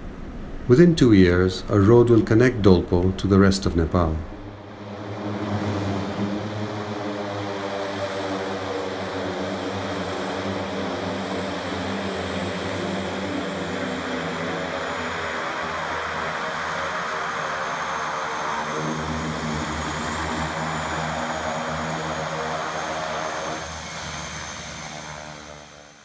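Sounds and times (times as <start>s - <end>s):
turboprop engines taxiing: 0.0s - 26.0s.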